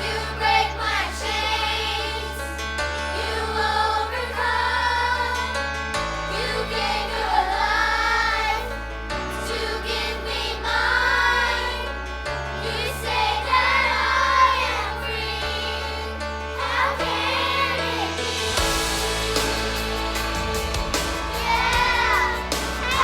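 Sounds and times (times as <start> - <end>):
group singing a slow hymn: 0.0 - 23.0
sustained low chords: 0.0 - 23.0.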